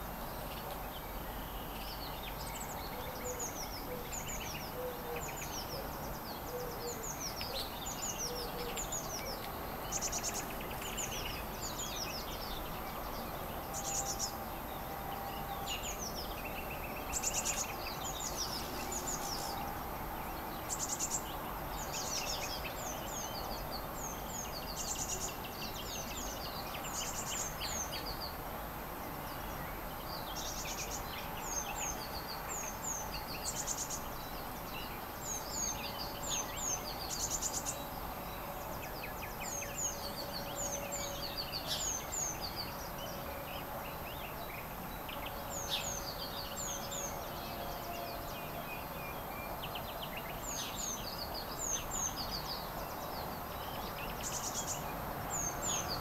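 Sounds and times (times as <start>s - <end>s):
low background noise: 0.0s - 56.0s
songbirds chirping: 0.0s - 56.0s.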